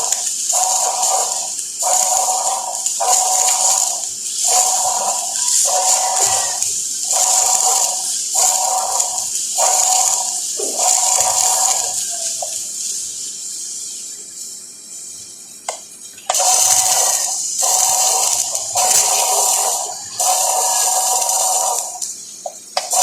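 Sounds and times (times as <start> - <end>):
welder arc crackling: 0.0 - 23.0.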